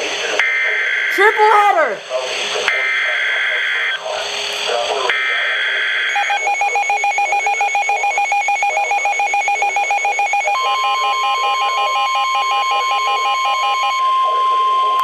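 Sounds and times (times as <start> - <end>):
steady warning tone: 0.3 - 15.0.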